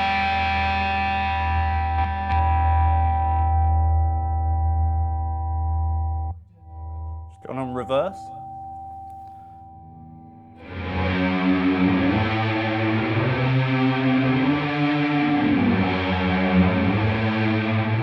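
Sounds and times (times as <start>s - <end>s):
distorted electric guitar with reverb: 0.0s - 18.0s.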